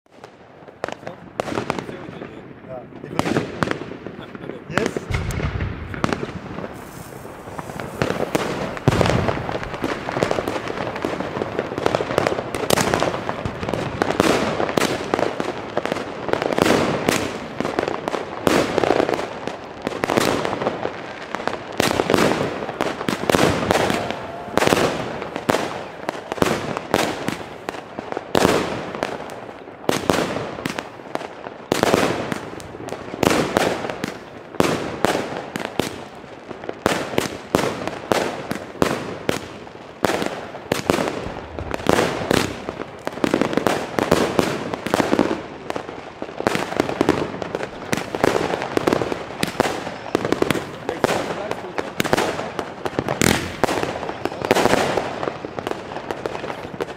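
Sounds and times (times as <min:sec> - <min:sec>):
firework bangs: 0:00.1 - 0:56.9
firework crackling: 0:00.1 - 0:56.9.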